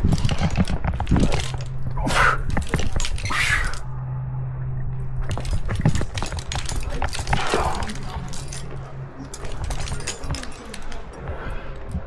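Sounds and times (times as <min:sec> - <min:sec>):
carabiners clinking: 0:00.0 - 0:03.9, 0:05.0 - 0:12.0.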